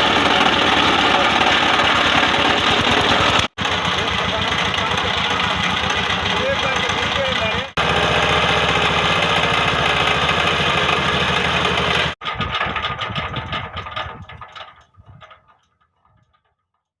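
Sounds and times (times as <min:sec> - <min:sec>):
stationary diesel engine running: 0:00.0 - 0:15.4.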